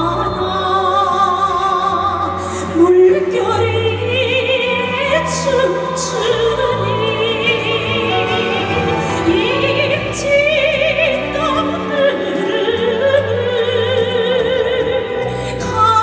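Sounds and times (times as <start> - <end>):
instrumental accompaniment: 0.0 - 16.0
woman singing operatically: 0.0 - 16.0.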